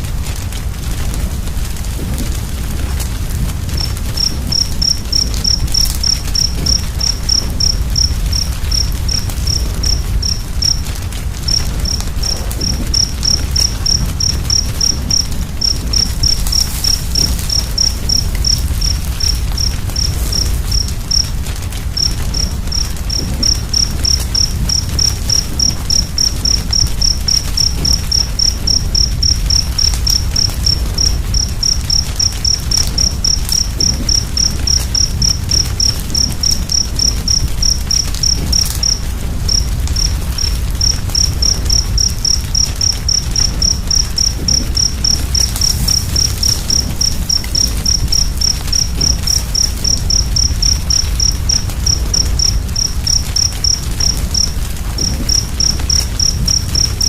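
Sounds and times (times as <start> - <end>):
cricket chirping: 0.0 - 57.0
fire crackles: 0.0 - 57.0
wood fire rumbling: 0.0 - 57.0.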